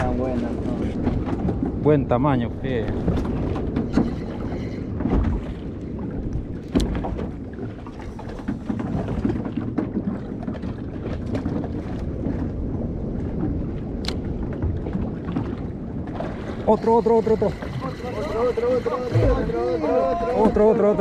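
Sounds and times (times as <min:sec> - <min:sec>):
water lapping against hull: 0:00.0 - 0:21.0
wind buffeting microphone: 0:00.0 - 0:21.0.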